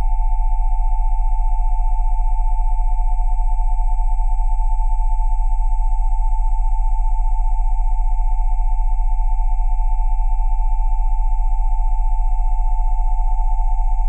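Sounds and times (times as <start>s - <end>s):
electronic sine tones: 0.0s - 14.0s.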